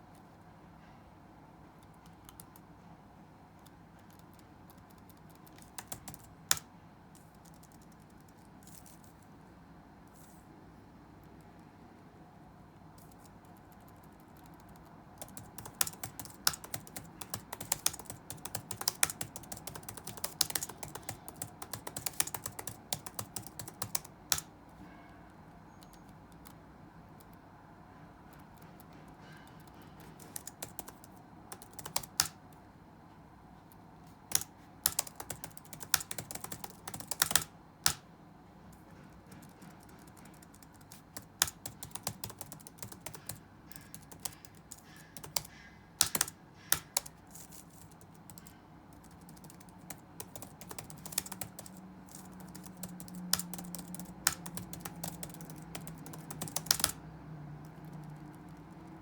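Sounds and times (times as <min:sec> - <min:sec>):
low room hum: 0:00.0 - 0:59.0
computer keyboard typing: 0:01.8 - 0:02.8, 0:03.6 - 0:09.1, 0:13.0 - 0:24.6, 0:25.7 - 0:27.4, 0:28.3 - 0:32.5, 0:34.1 - 0:38.0, 0:38.7 - 0:59.0.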